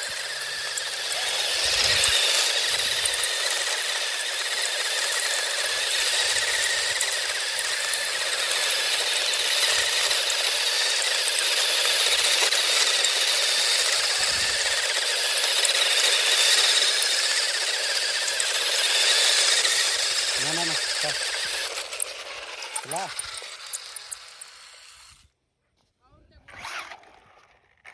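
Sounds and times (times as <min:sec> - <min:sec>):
electric motor whining: 0:00.0 - 0:25.3, 0:26.5 - 0:27.9.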